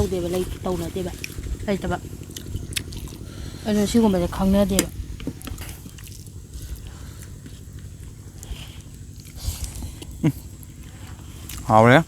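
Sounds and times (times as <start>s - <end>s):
mouth clicks and crunches: 0.0s - 4.0s, 4.6s - 12.0s
people chewing food: 0.0s - 12.0s.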